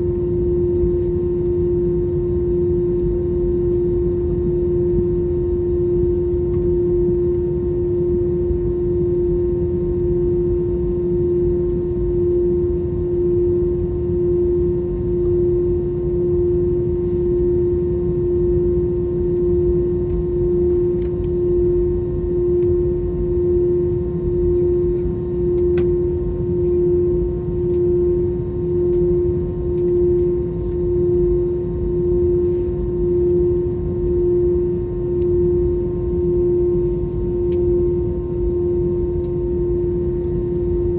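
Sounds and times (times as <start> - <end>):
aircraft cabin engine hum: 0.0 - 40.9.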